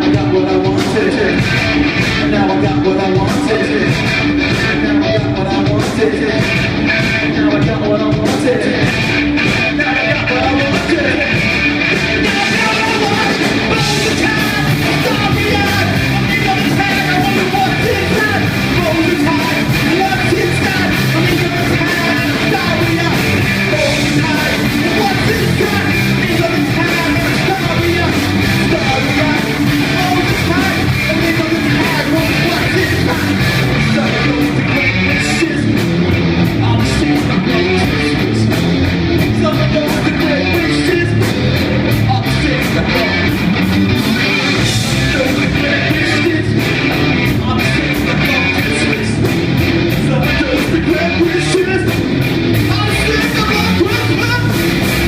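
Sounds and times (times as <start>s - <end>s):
person singing: 0.0s - 43.5s, 44.4s - 52.0s
live rock band playing: 0.0s - 55.0s.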